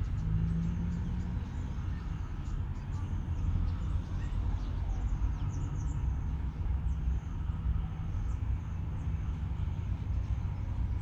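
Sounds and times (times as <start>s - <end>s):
diesel locomotive rumble: 0.0s - 11.0s
small birds chirping: 0.0s - 11.0s.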